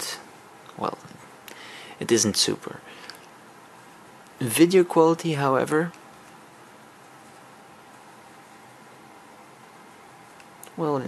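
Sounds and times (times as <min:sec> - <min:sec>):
recording hiss: 0:00.0 - 0:11.0.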